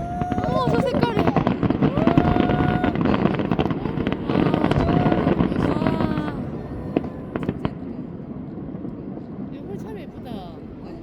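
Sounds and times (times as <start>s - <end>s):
fireworks bursting and crackling: 0.0s - 10.0s.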